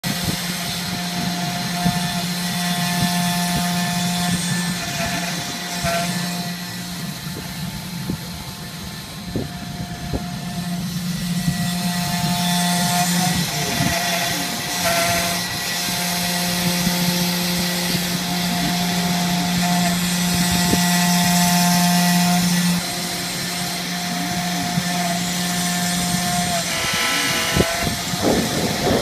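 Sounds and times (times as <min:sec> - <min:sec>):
router cutting wood: 0:00.0 - 0:29.0.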